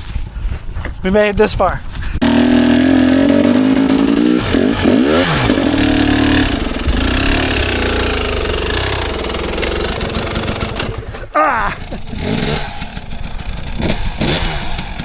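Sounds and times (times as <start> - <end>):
dirt bike engine revving: 2.2 - 15.0.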